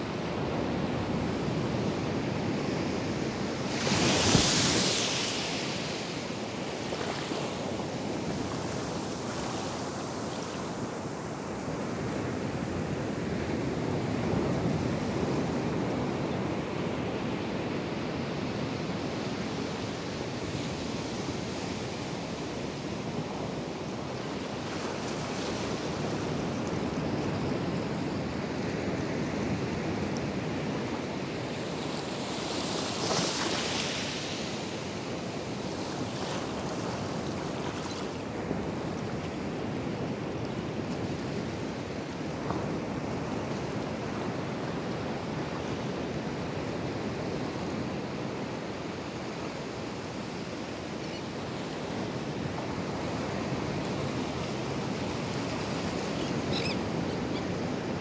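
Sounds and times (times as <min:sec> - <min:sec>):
waves breaking on sand: 0:02.8 - 0:17.3, 0:22.2 - 0:58.0.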